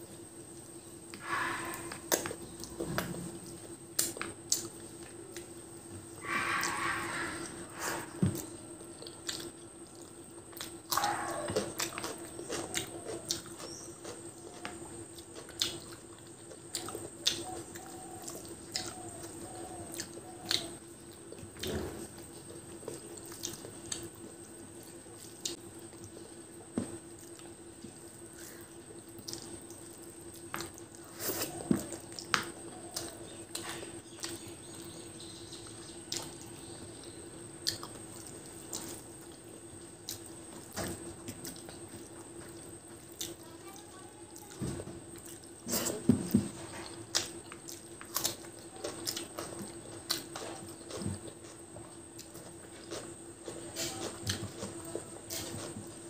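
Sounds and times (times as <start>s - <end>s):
faint steady hum: 0.0s - 56.0s
chewing and lip smacks: 1.1s - 5.6s, 8.3s - 56.0s.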